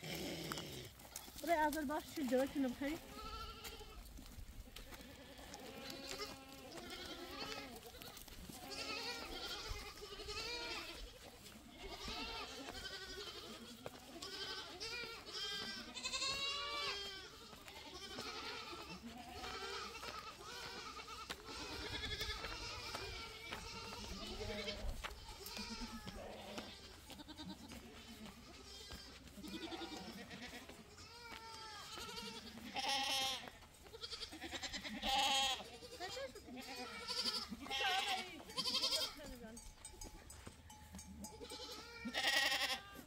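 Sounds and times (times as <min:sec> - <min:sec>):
goats bleating: 0:00.0 - 0:43.0.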